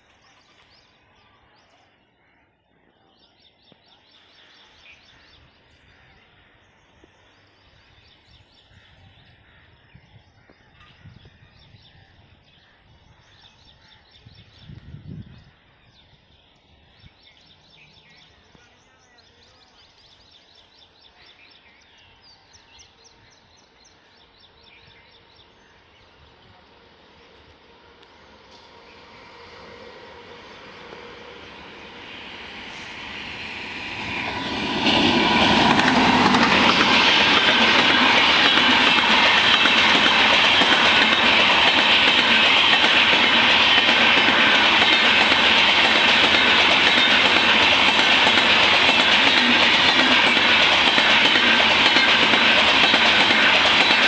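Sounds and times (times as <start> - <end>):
birds chirping in high trills: 10.0 - 54.0.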